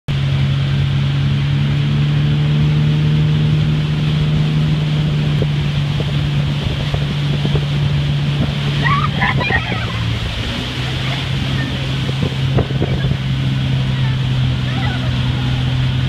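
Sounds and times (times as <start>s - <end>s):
motorboat engine running: 0.1s - 16.0s
water rushing: 0.1s - 16.0s
wind on microphone: 1.8s - 16.0s.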